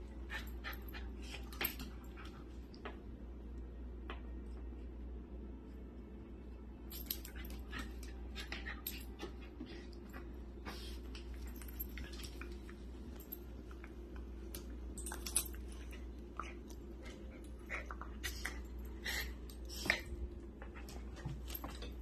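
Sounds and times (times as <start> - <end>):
dogs play-fighting: 0.0 - 3.1, 6.9 - 22.0.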